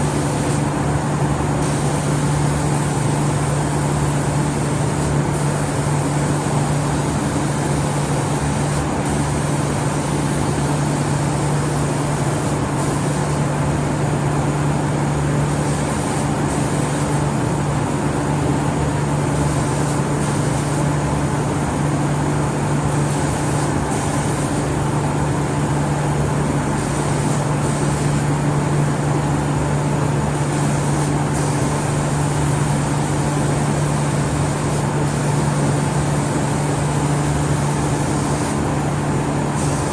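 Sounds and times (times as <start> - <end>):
spray painting machine hum: 0.0 - 39.9.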